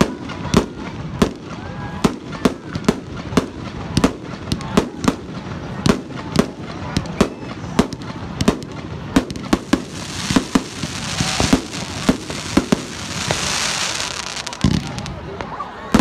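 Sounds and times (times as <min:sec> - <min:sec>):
fireworks high hiss: 0:00.0 - 0:15.4
fireworks bangs: 0:00.0 - 0:16.0.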